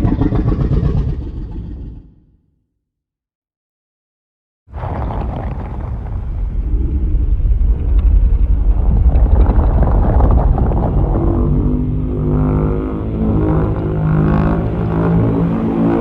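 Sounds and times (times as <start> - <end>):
deep heavy monster rumble: 0.0 - 2.4, 4.7 - 16.0.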